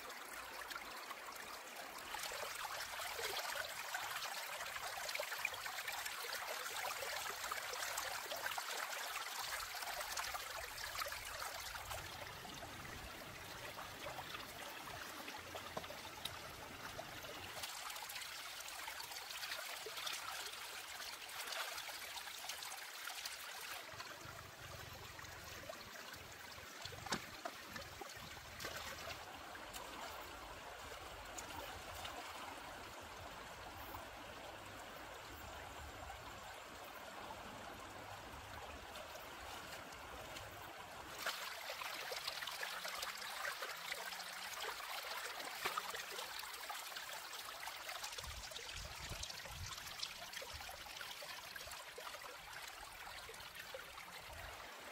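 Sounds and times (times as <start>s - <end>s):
stream flowing and trickling: 0.0s - 54.9s.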